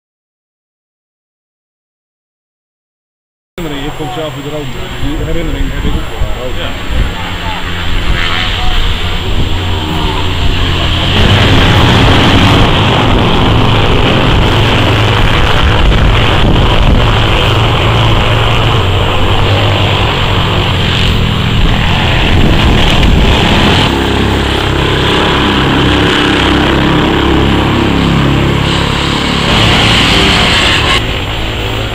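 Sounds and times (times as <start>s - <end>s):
racing motorcycle engines: 3.6s - 31.9s.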